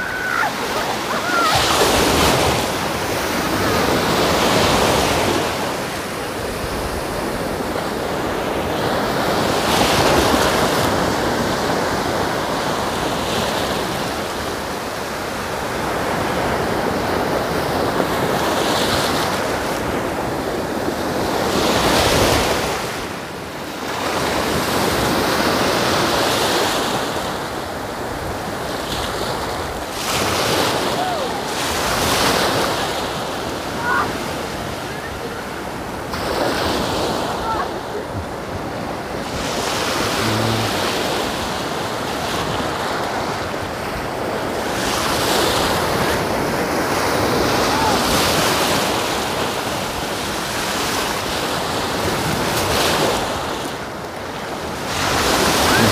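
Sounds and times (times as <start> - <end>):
surf breaking on sandy shore: 0.0 - 55.9.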